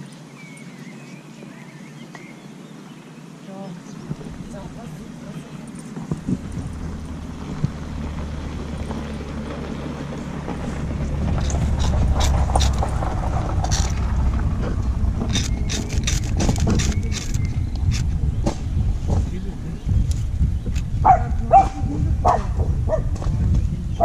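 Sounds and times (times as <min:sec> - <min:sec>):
low rumble: 0:03.8 - 0:24.0.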